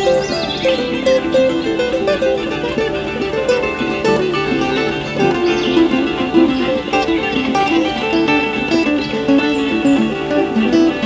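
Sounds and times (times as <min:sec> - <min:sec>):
guitars plucking notes: 0:00.0 - 0:11.0.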